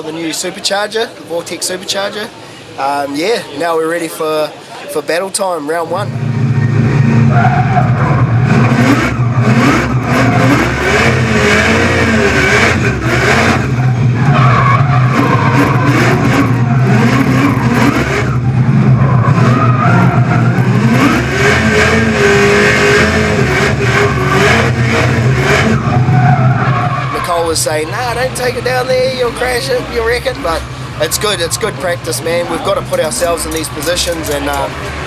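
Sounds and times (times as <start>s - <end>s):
tyres squealing and skidding: 0.0s - 35.0s
car engine revving: 5.9s - 35.0s.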